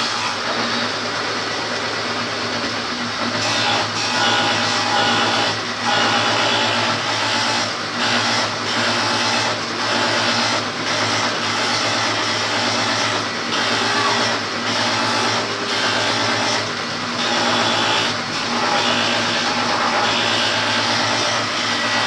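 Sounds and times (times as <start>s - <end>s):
woodworking machine cutting board: 0.0s - 22.0s.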